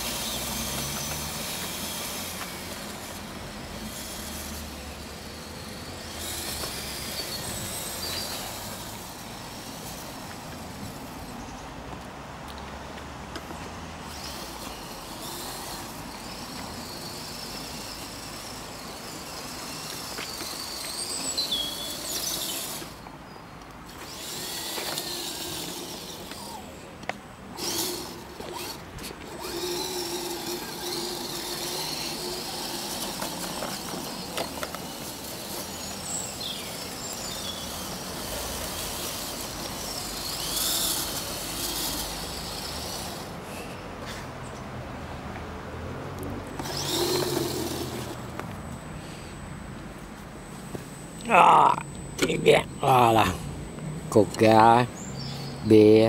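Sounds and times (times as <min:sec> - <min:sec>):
electric motor and gears whining: 0:00.0 - 0:11.5, 0:13.3 - 0:44.6, 0:46.2 - 0:56.0
tyres over dirt and leaves: 0:00.0 - 0:44.6, 0:46.4 - 0:56.0.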